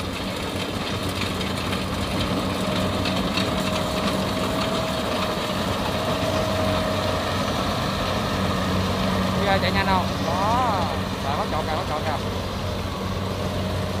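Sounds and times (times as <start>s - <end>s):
combine harvester running: 0.0s - 14.0s
steady high whine: 1.9s - 14.0s.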